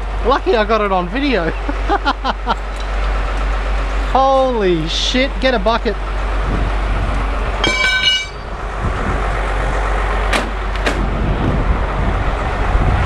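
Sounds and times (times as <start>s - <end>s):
mechanical noise with low hum: 0.0s - 13.0s.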